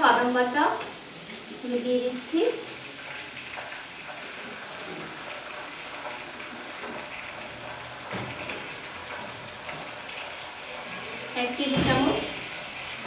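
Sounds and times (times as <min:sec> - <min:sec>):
spice paste sizzling in pan: 0:00.0 - 0:13.0.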